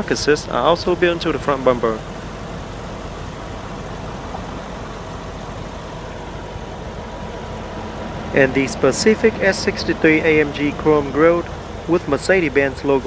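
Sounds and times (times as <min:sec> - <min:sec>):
car engine idling: 0:00.0 - 0:13.0
constant hiss: 0:00.0 - 0:13.0
faint steady whine: 0:00.0 - 0:13.0.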